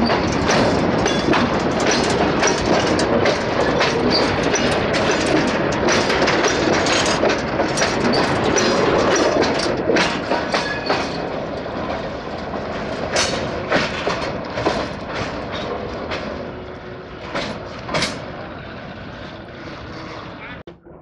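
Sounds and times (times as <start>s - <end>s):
wheels clacking over rail joints: 0.0s - 20.6s
freight wagons rumbling: 0.0s - 21.0s.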